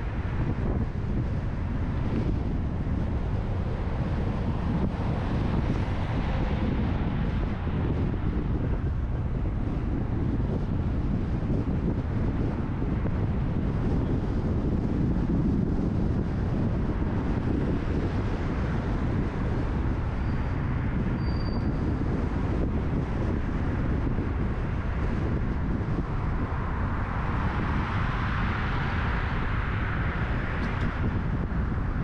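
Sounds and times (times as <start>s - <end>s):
car road and wind noise: 0.0s - 32.0s.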